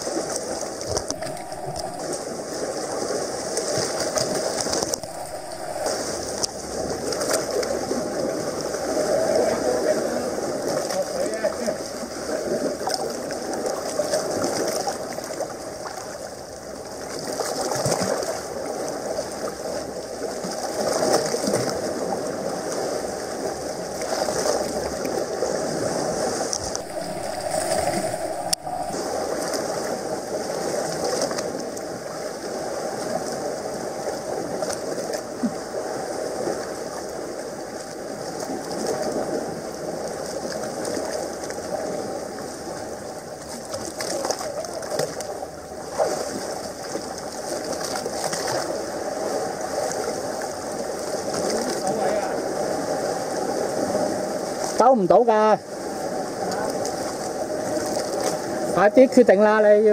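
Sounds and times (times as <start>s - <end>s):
water lapping against rocks: 0.0s - 54.8s.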